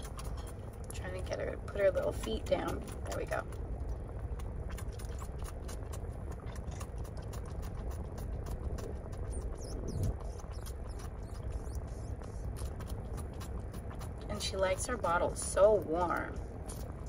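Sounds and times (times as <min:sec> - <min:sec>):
animal suckling clicks: 0:00.0 - 0:17.0.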